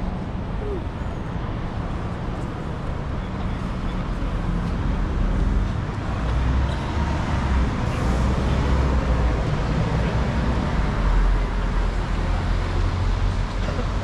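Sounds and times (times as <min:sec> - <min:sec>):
cars and buses passing: 0:00.0 - 0:14.0.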